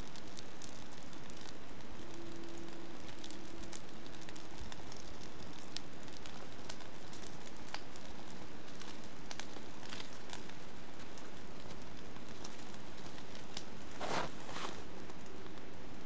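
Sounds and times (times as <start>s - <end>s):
fire crackling and popping: 0.0s - 16.0s
steady fire hiss: 0.0s - 16.0s.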